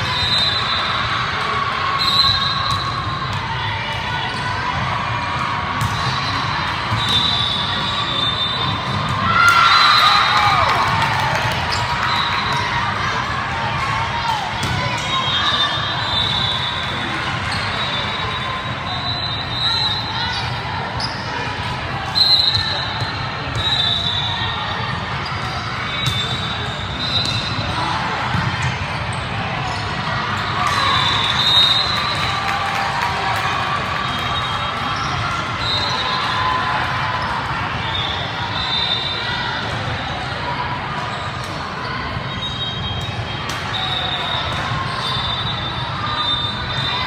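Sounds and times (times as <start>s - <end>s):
murmur of voices in a gym: 0.0s - 47.0s.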